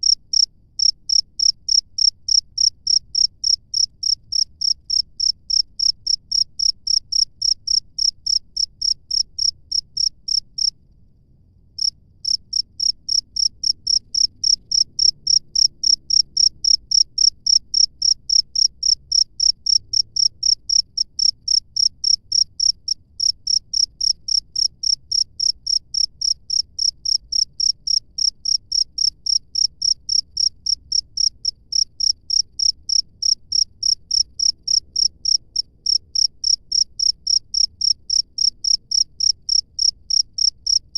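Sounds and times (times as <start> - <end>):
cricket chirping: 0.0 - 10.8, 11.8 - 40.9.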